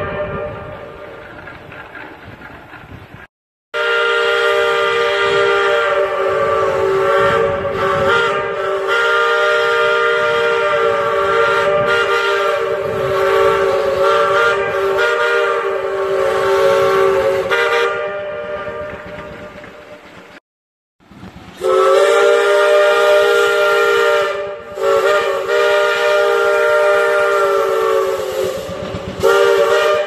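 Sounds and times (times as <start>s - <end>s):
steam whistle blast: 0.0s - 1.0s, 3.8s - 19.6s, 21.6s - 30.0s.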